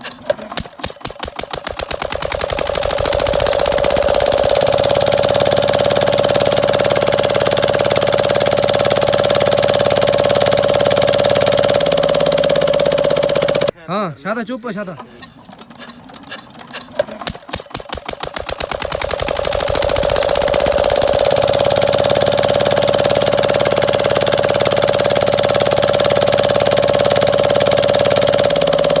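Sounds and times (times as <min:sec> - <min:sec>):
diesel engine starting: 0:00.0 - 0:29.0.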